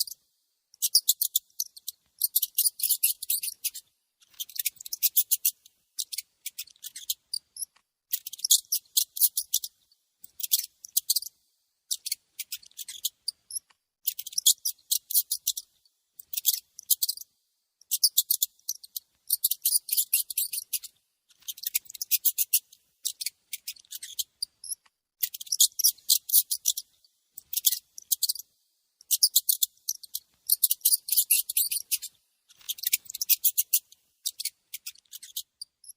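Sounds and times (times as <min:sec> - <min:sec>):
mouse squeaking: 0:00.0 - 0:00.2, 0:00.8 - 0:35.9.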